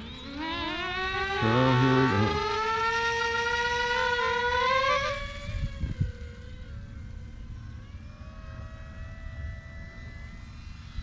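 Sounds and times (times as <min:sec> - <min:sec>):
model plane motors whining: 0:00.0 - 0:11.0.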